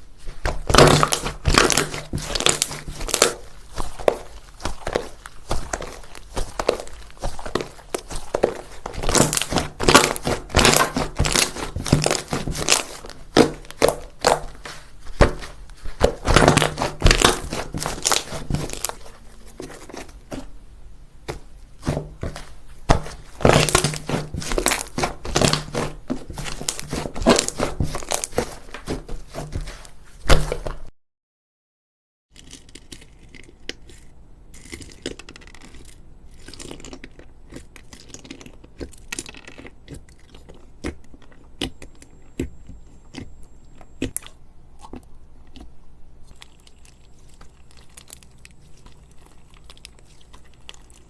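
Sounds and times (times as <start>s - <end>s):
crunchy slime crackling: 0.0s - 20.6s, 21.2s - 30.9s, 32.4s - 51.0s.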